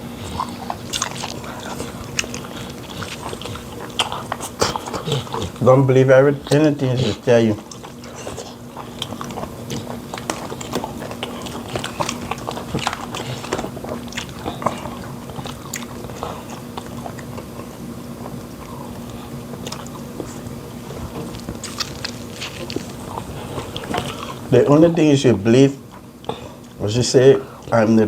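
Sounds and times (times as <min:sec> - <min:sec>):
chewing and mouth smacking: 0:00.0 - 0:25.1, 0:25.8 - 0:26.8
steady low hum: 0:00.0 - 0:28.0.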